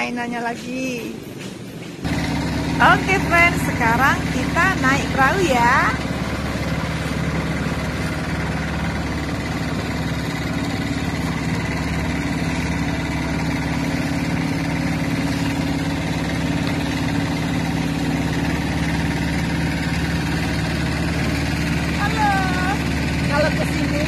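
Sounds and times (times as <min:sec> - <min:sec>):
boat motor droning: 0:01.9 - 0:24.0.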